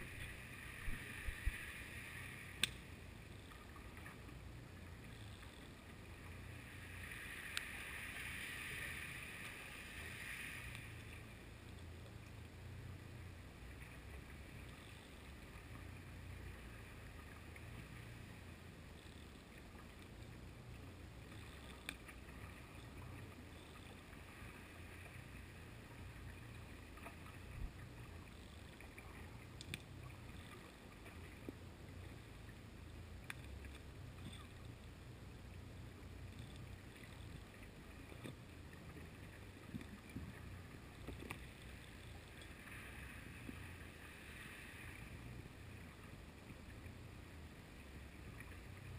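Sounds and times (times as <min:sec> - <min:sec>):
low underwater rumble: 0:00.0 - 0:48.9.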